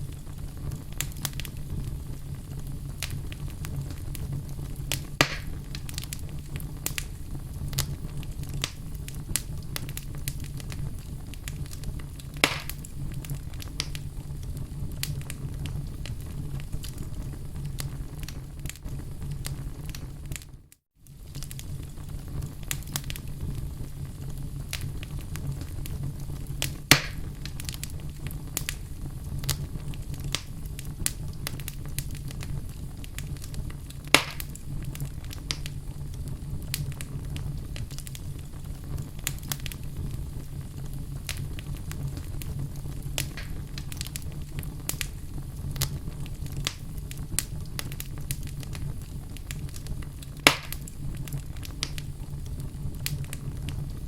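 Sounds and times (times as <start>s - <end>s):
sharp fire pops: 0.0s - 20.5s, 21.1s - 54.0s
fire rumbling and crackling: 0.0s - 54.0s.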